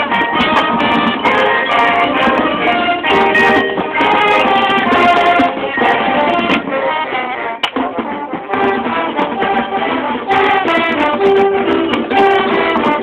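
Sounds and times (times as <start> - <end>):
sharp percussion strokes: 0.0 - 6.9, 7.6 - 13.0
brass holding chords: 0.0 - 13.0.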